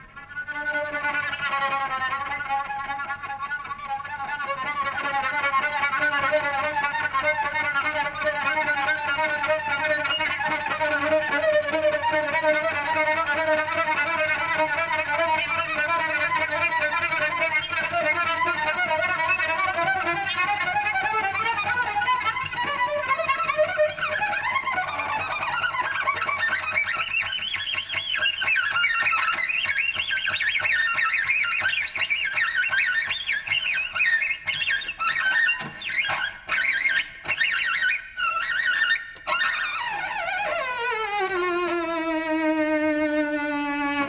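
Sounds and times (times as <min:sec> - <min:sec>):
solo cello bowed: 0:00.0 - 0:27.0, 0:34.6 - 0:44.0.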